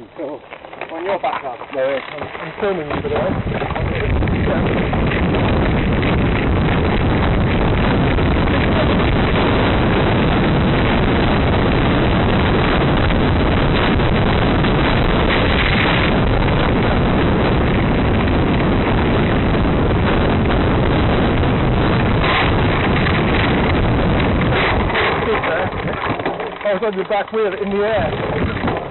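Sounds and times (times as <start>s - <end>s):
bicycle tyre and trail noise: 0.0s - 28.9s
wind buffeting microphone: 0.0s - 28.9s.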